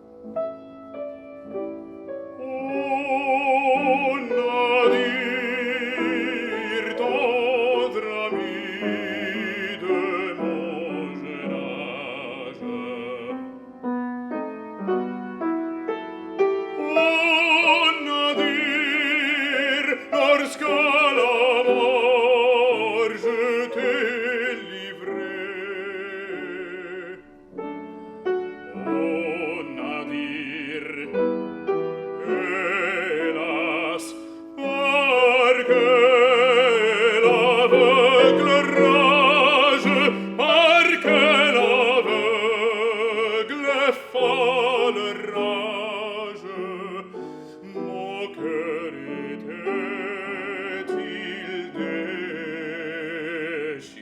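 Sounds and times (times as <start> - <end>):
operatic classical music: 0.0 - 54.0.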